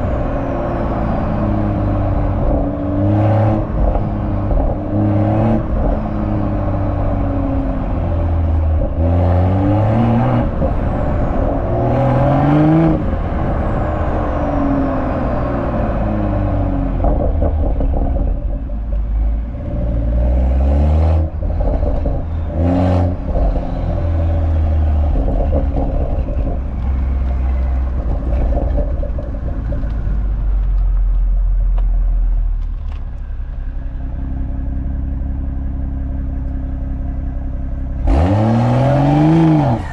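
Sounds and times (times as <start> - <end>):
car exhaust on hard acceleration: 0.0 - 39.9.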